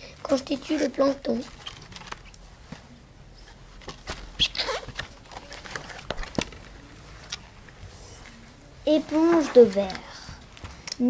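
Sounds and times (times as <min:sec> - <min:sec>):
paper rustling: 0:00.4 - 0:08.4, 0:09.0 - 0:10.8.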